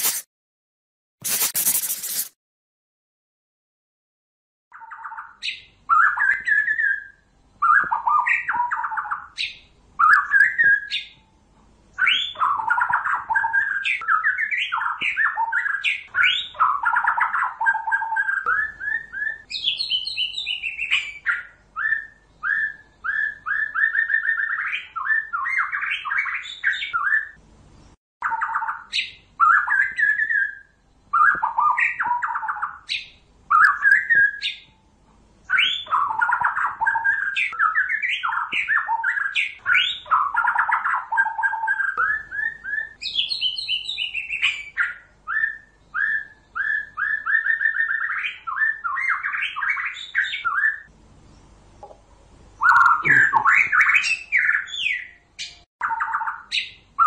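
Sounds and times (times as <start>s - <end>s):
bird singing varied phrases: 4.7s - 34.8s, 35.4s - 51.6s, 52.5s - 57.0s.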